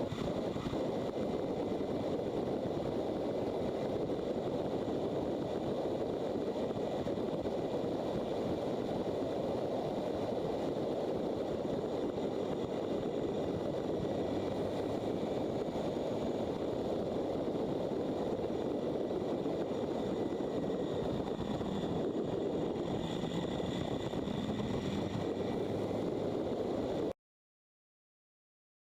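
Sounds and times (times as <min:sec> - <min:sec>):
motorcycle riding on road: 0:00.0 - 0:27.1.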